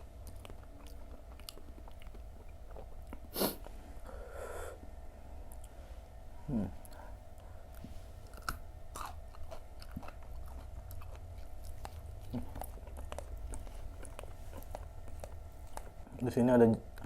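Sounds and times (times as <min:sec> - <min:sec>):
chewing crunchy fried snacks: 0:00.0 - 0:03.7, 0:06.8 - 0:17.0.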